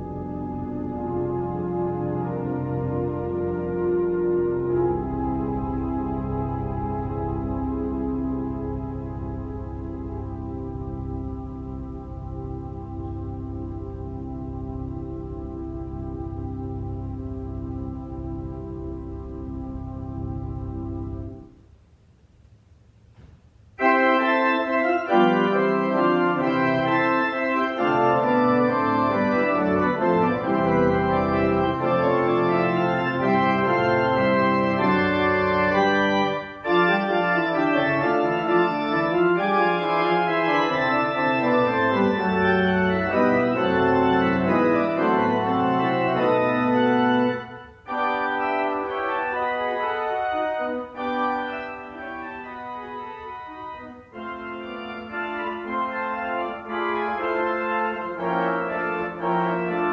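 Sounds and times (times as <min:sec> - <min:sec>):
pipe organ playing chords: 0:00.0 - 0:21.9, 0:23.6 - 0:59.9.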